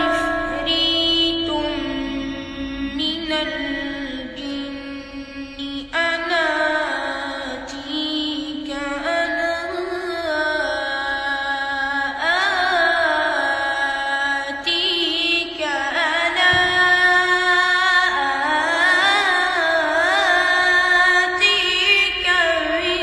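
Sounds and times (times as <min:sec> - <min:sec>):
child chanting recitation: 0:00.0 - 0:23.0.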